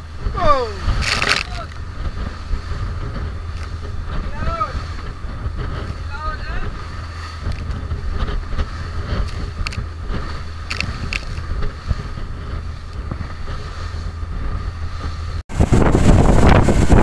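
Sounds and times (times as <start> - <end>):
strong wind buffeting microphone: 0.0 - 17.0
water rushing along hull: 0.0 - 17.0.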